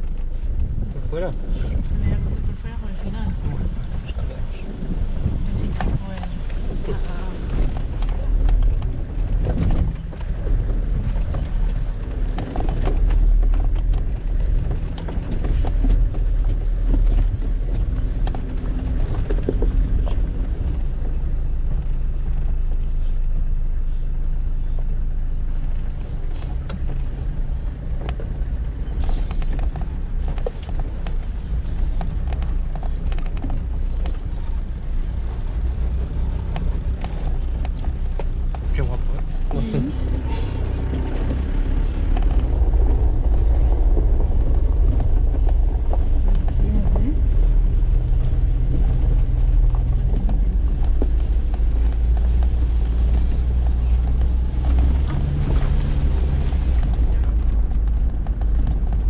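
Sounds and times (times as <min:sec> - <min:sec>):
engine low rumble: 0:00.0 - 0:59.0.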